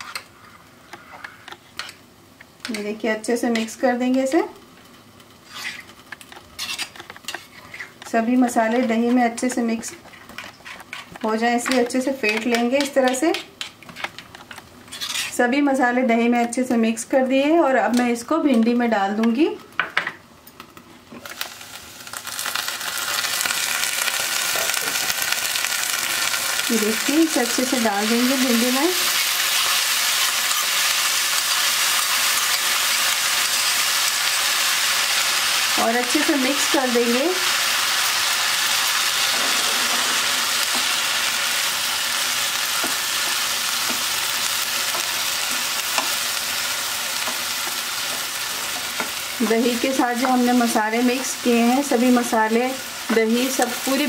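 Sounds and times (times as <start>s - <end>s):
okra sizzling in a pan: 0.0s - 54.0s.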